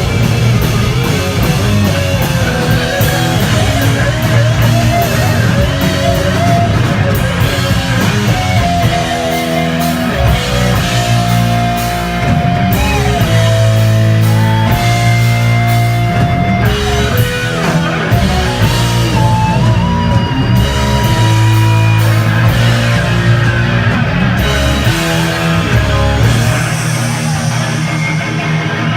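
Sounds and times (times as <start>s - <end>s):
bass guitar: 0.0s - 28.9s
distorted electric guitars: 0.0s - 28.9s
drum kit: 0.0s - 28.9s.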